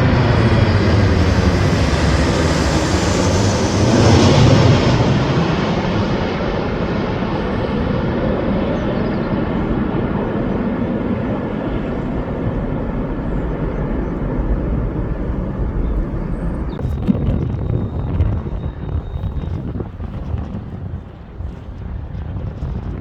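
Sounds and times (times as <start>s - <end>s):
airliner engine rumble: 0.0s - 23.0s.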